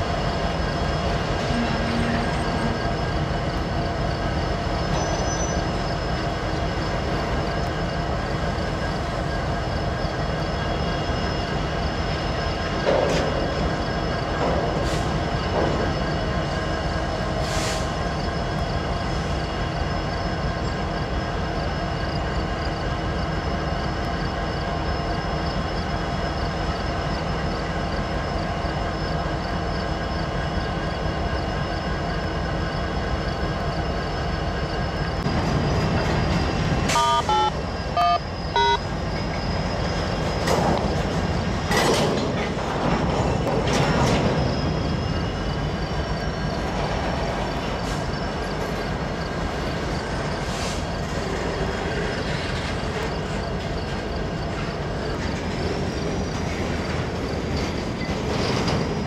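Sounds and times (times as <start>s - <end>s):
locomotive engine drone: 0.0s - 59.0s.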